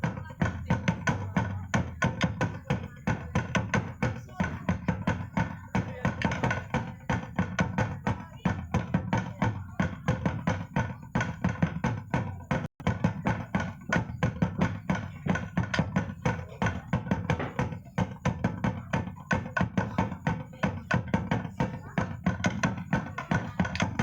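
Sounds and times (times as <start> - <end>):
drums and percussion beating: 0.0 - 24.0.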